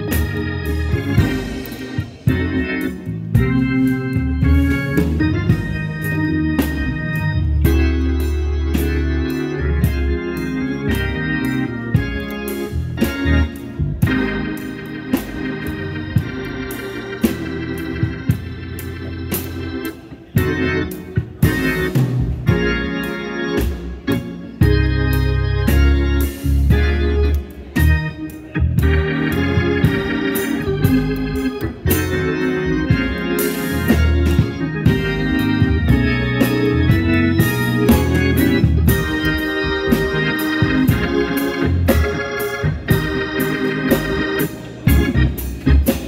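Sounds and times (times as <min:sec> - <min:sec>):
organ chords: 0:00.0 - 0:46.0
sharp beat: 0:00.0 - 0:46.0.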